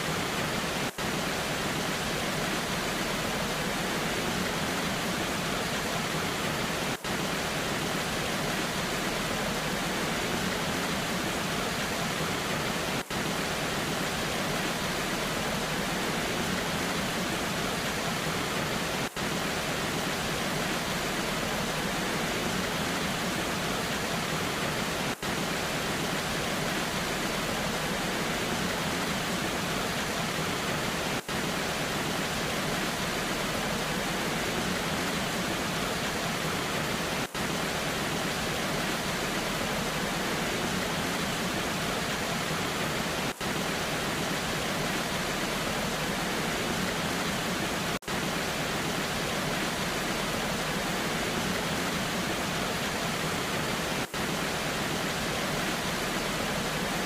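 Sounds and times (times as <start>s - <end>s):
rain falling: 0.0s - 57.0s
waterfall rushing: 0.0s - 57.0s.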